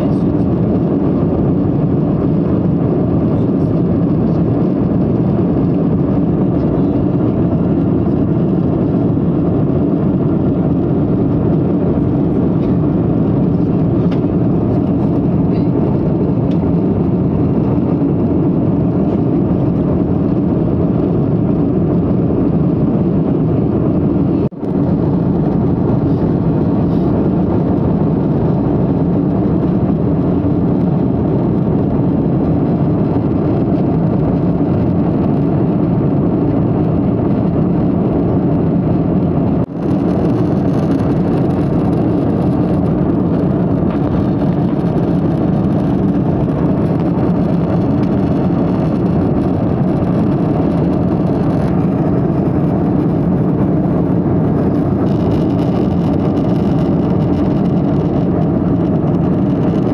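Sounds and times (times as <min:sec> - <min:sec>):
jet cabin engine roar: 0:00.0 - 0:59.9.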